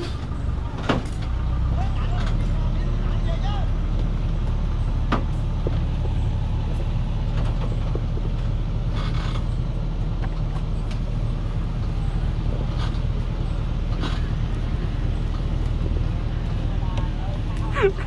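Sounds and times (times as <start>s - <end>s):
heavy truck engine drone: 0.0s - 18.0s
load and chassis creaking: 0.0s - 18.0s.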